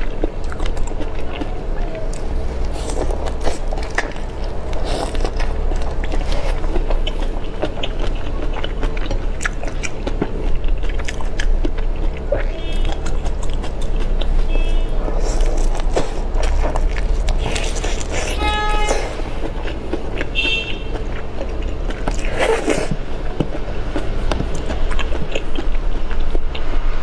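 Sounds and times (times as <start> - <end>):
crunchy chewing of shrimp: 0.0 - 27.0
steady low hum: 0.0 - 27.0.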